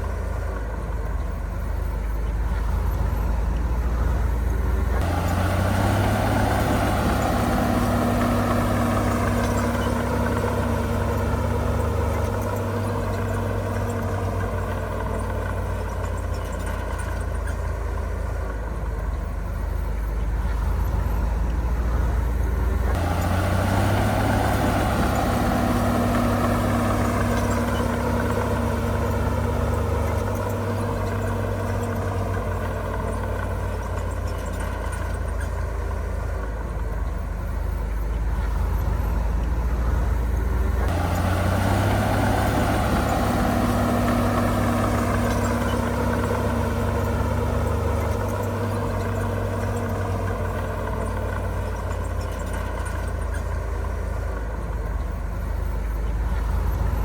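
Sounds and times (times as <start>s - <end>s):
diesel earthmoving machine rumbling: 0.0s - 57.0s.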